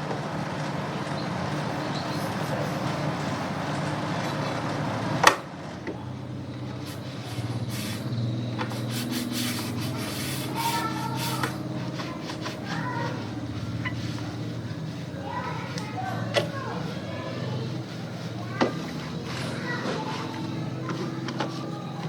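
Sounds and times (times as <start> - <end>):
hissing water spray: 0.0 - 5.4, 6.0 - 22.0
machine hum: 0.0 - 22.0.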